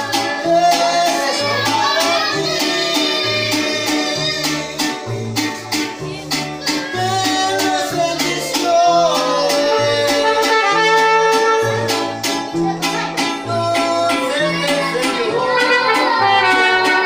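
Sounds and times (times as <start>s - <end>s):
held melody line: 0.0s - 17.0s
strummed guitars: 0.0s - 17.0s.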